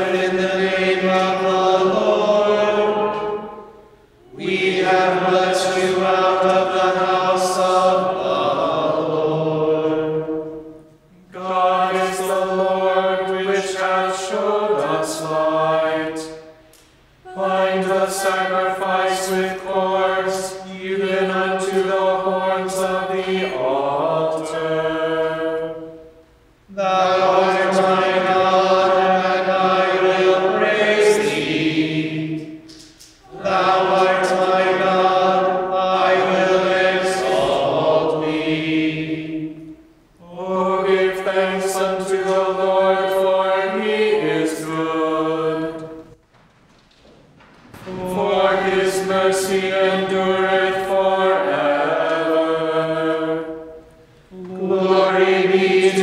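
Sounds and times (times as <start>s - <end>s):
choir chanting in unison: 0.0s - 16.6s, 17.2s - 46.2s, 47.8s - 56.0s.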